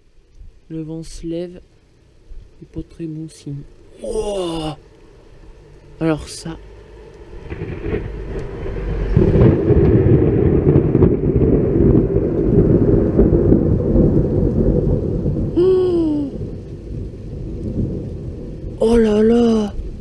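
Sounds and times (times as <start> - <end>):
thunder rumbling: 3.6 - 20.0.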